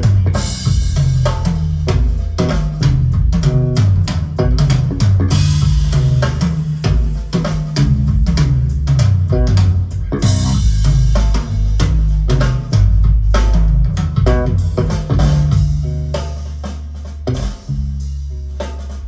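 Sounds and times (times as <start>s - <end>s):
guitar: 0.0s - 18.6s
bass guitar: 0.0s - 19.0s
drum kit: 0.0s - 19.0s.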